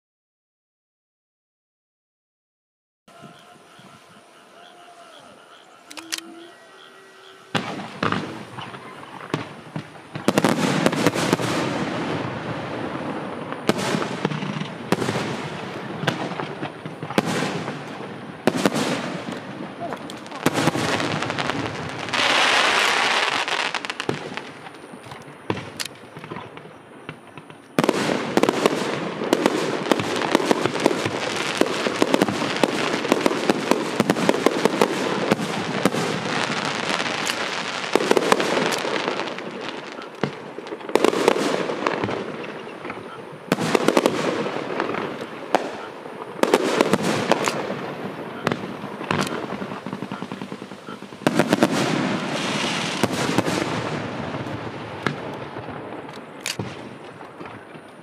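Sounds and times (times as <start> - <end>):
fireworks cracks and bangs: 7.5 - 58.0.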